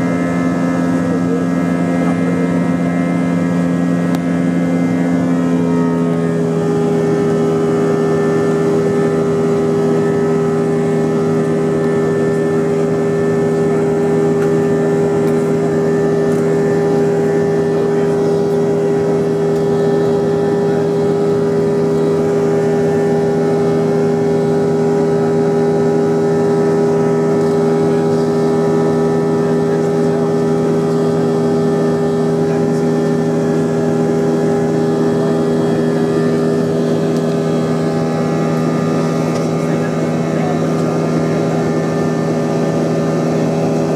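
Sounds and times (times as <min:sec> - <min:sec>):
jet engines droning: 0:00.0 - 0:43.9.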